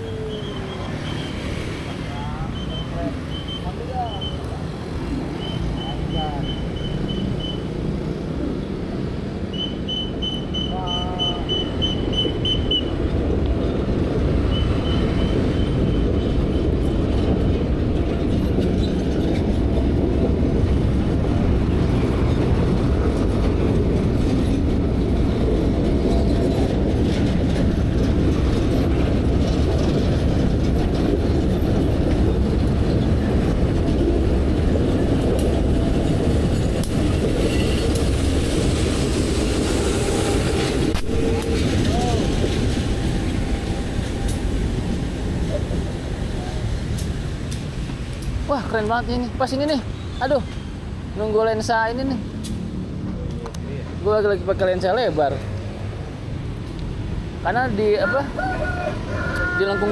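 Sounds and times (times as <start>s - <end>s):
diesel train passing: 0.0s - 59.9s.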